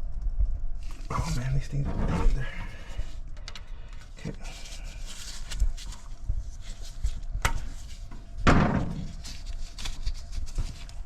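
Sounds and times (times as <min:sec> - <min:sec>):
scraping rustle: 0:00.8 - 0:03.2, 0:04.0 - 0:11.0.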